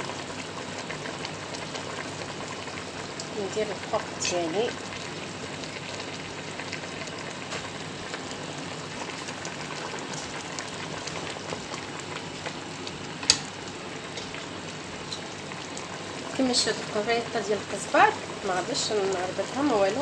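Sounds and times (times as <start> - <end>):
broth bubbling in a pot: 0.0 - 20.0.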